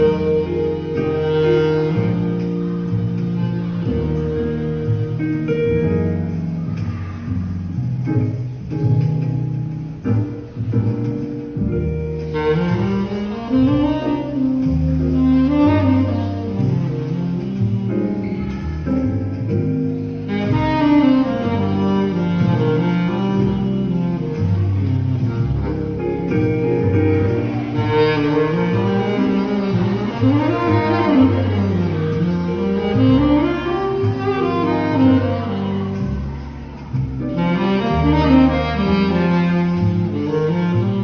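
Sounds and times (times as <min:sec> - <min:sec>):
tenor saxophone ballad melody: 0:00.0 - 0:06.9, 0:08.0 - 0:41.0
backing track with bass line: 0:00.0 - 0:41.0.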